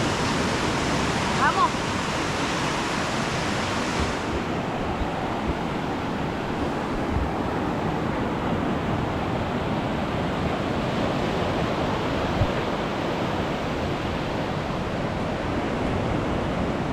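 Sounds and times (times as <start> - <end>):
ocean surf breaking: 0.0 - 16.9.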